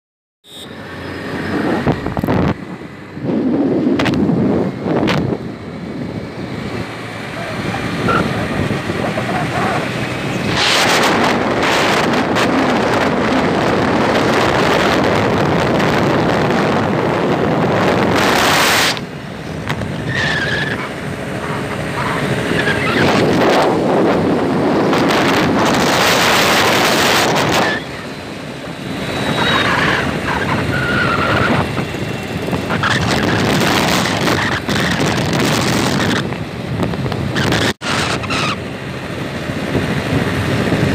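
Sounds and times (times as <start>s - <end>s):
passing traffic: 0.4s - 40.9s
vehicle road noise: 0.4s - 40.9s
wind rushing over microphone: 1.0s - 40.9s.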